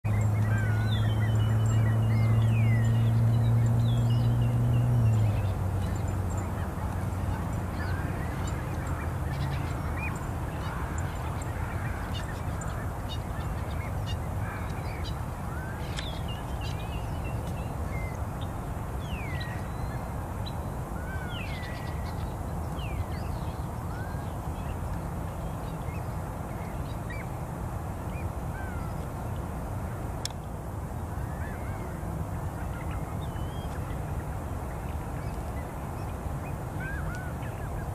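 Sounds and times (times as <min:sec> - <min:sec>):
birds calling: 0:00.0 - 0:29.5, 0:31.0 - 0:37.9.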